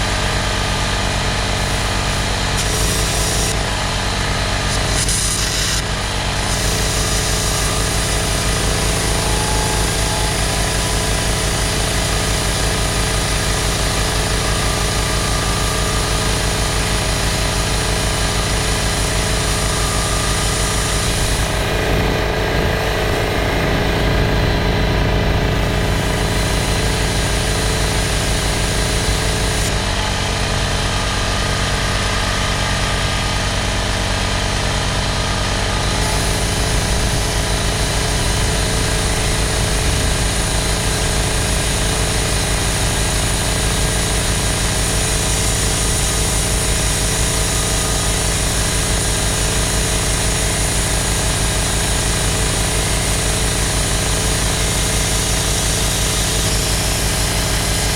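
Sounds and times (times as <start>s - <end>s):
machine motor pulsing: 0.0s - 57.9s.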